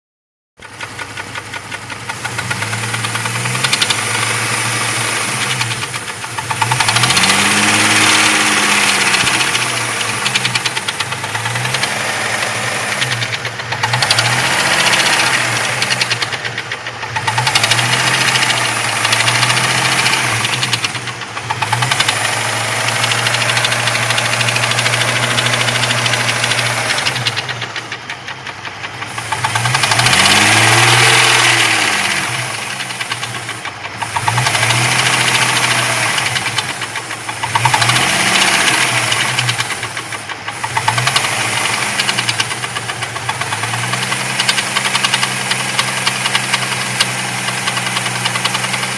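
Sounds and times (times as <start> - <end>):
car engine revving with knocking: 0.6 - 48.9.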